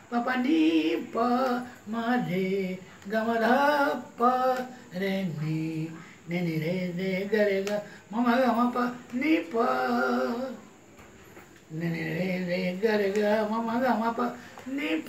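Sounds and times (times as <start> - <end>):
elderly man singing unaccompanied: 0.0 - 15.0.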